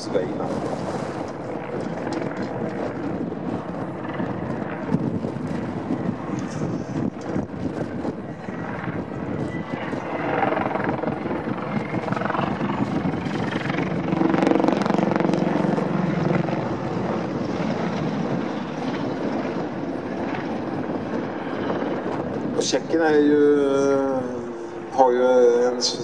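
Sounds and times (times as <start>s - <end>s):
helicopter flying past: 0.0s - 26.0s.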